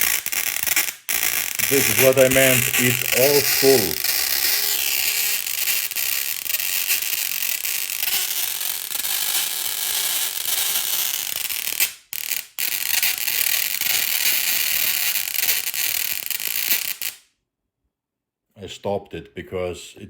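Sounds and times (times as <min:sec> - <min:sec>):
tesla coil arcs hissing: 0:00.0 - 0:17.2.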